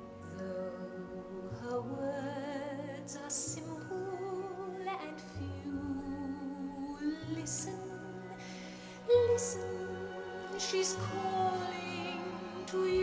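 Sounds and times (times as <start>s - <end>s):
soft accompaniment: 0.0s - 13.0s
woman singing a ballad: 0.2s - 13.0s.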